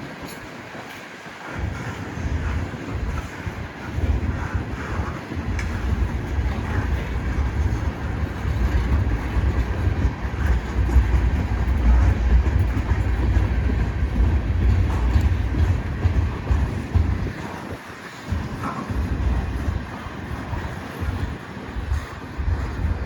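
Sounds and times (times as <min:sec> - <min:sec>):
freight train rolling by: 0:00.0 - 0:23.0
wheels rumbling on rail: 0:00.0 - 0:23.0.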